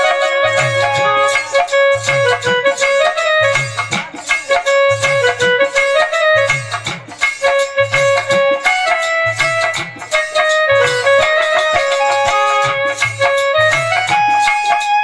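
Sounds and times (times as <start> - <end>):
melody of long held notes: 0.0 - 15.0.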